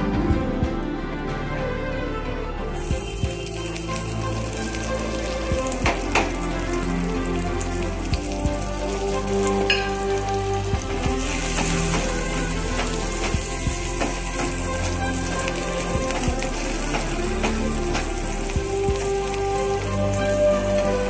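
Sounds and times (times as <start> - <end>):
garlic sizzling in oil: 2.8 - 21.0.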